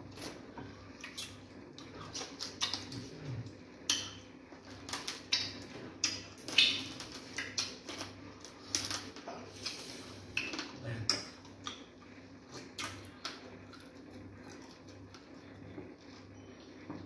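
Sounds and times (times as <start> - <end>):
wet mouth eating sounds: 0.1 - 15.3.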